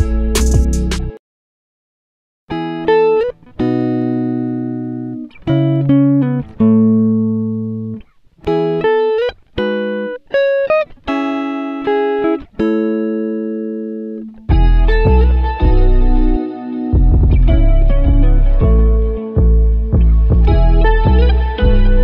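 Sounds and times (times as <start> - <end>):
plucked guitar-like melody: 0.0 - 1.2, 2.5 - 22.0.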